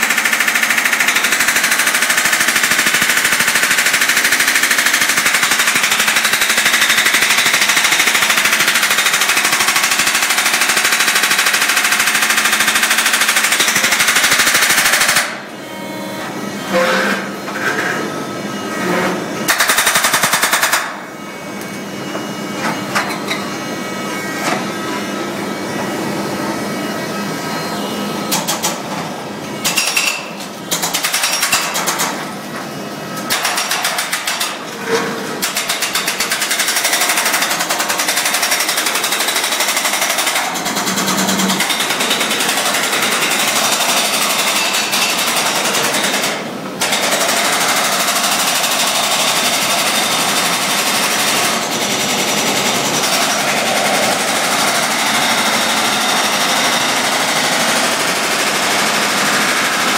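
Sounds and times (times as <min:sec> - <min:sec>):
hydraulic breaker hammering concrete: 0:00.0 - 0:15.6, 0:16.3 - 0:25.0, 0:28.2 - 0:59.9.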